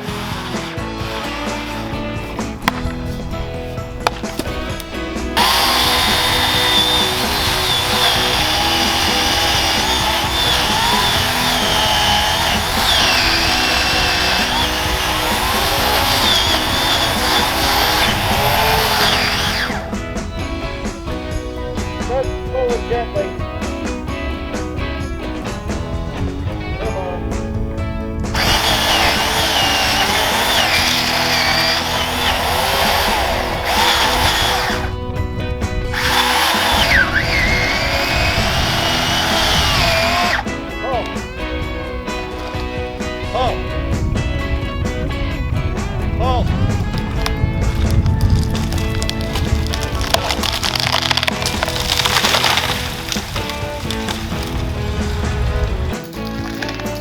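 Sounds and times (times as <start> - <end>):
electric chainsaw cutting wood: 0.0 - 27.6, 28.2 - 57.0.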